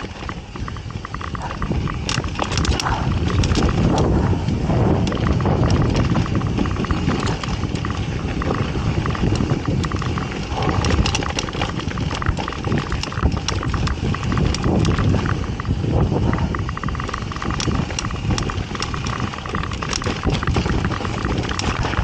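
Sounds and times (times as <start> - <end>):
bike rattling and clicking: 0.0 - 22.0
tyres rumbling over dirt: 0.0 - 22.0.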